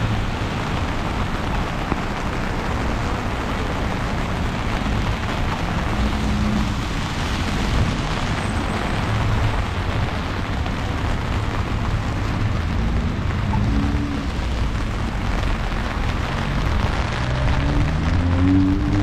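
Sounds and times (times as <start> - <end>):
city traffic rumble: 0.0 - 19.0
heavy freezing rain: 0.0 - 19.0.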